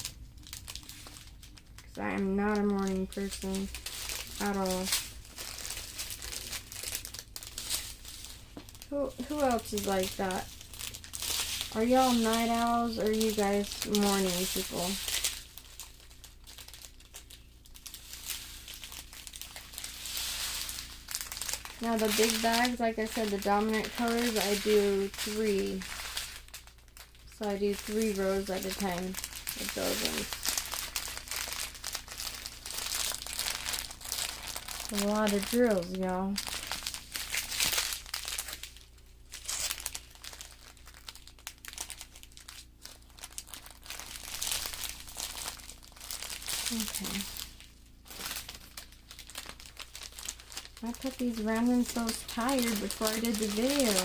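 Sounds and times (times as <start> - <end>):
plastic bags crinkling: 0.0 - 54.0.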